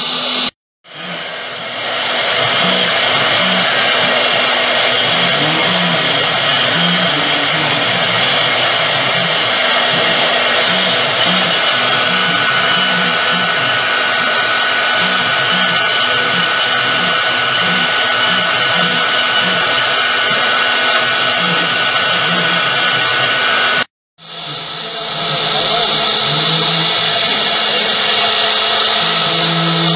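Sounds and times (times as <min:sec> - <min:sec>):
router spindle whine and cutting: 0:00.0 - 0:29.9.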